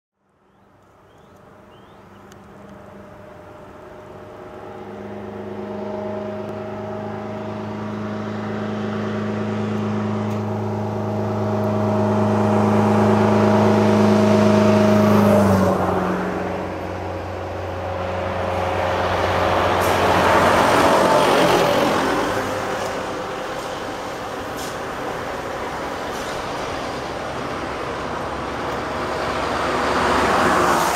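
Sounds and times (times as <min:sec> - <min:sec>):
trolleybus rolling and tyre noise: 0:00.2 - 0:30.9
minibus engine passing: 0:00.3 - 0:30.9.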